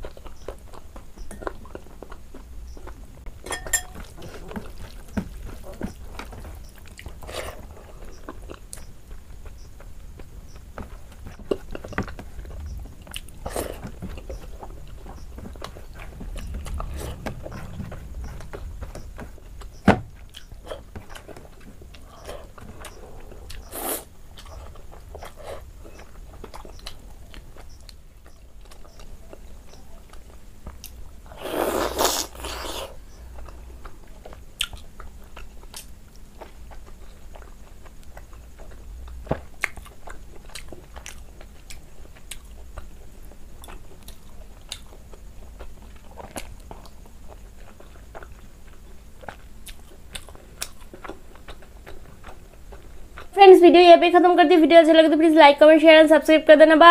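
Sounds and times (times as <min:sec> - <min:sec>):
person chewing food: 0:00.0 - 0:53.3.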